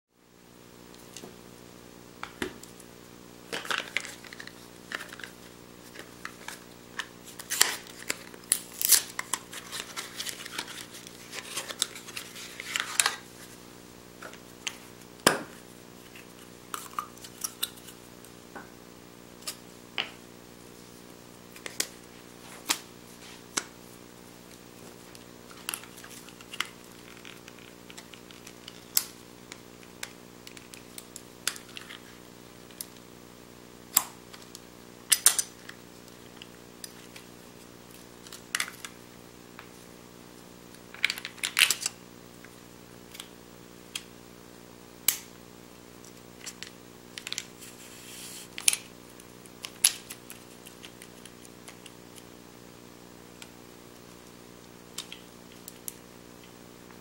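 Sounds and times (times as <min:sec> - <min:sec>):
faint steady hum: 0:00.1 - 0:57.0.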